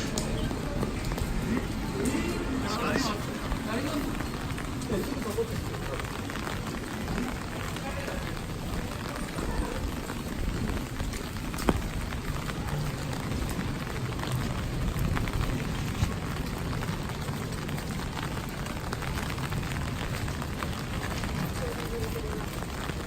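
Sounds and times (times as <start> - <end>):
rain patter: 0.0 - 23.0.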